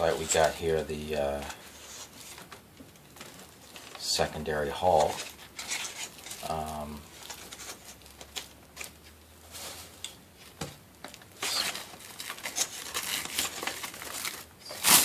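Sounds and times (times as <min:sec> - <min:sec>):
packing material crinkling: 0:00.0 - 0:10.0, 0:11.0 - 0:15.0.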